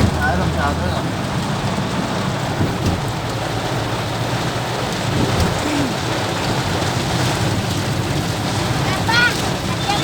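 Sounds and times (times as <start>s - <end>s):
heavy rain pattering: 0.0s - 10.0s.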